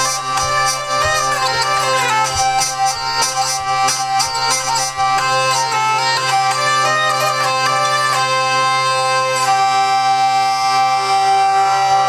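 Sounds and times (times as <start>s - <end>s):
hurdy-gurdy drone: 0.0s - 12.0s
hurdy-gurdy melody: 0.0s - 12.0s.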